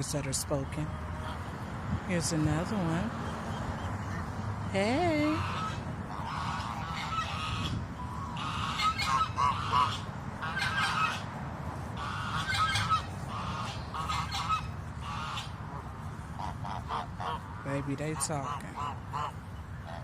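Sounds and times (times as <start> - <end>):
steady low rumble: 0.0 - 20.0
waterfowl honking: 0.0 - 20.0.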